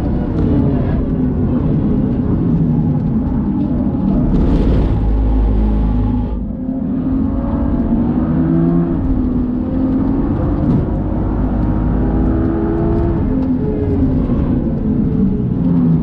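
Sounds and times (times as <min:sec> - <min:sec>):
car engine revving at full throttle: 0:00.0 - 0:16.0.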